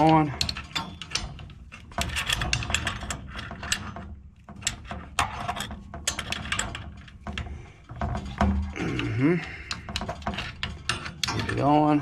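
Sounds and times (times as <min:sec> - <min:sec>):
wrench clicking and creaking on metal: 0:00.0 - 0:12.0.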